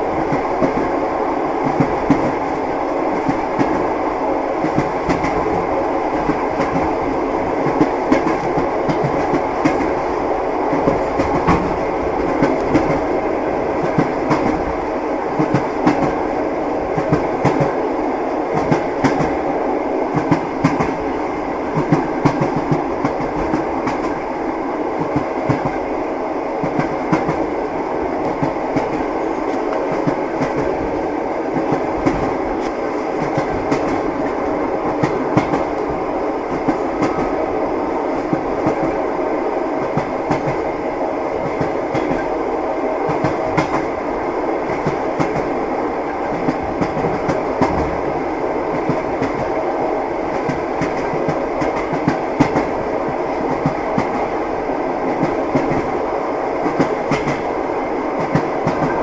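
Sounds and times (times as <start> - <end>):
rail joints clacking: 0.0 - 26.0, 26.6 - 39.1, 39.7 - 40.8, 41.4 - 44.0, 44.6 - 59.0
train wheels rumbling on rails: 0.0 - 59.0.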